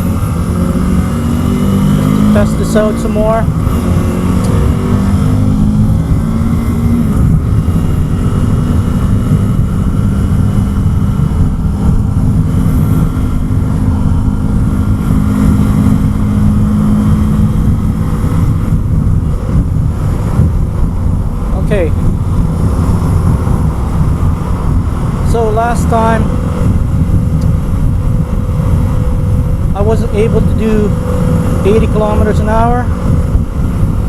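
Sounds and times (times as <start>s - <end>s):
motorcycle engine cruising: 0.0s - 34.0s
wind noise on microphone: 0.0s - 34.0s.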